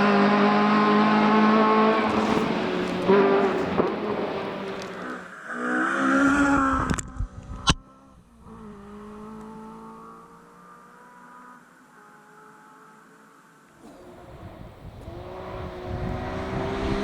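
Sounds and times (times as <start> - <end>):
car accelerating away: 0.0 - 7.0, 7.8 - 17.0
rally car engine revving: 0.0 - 17.0.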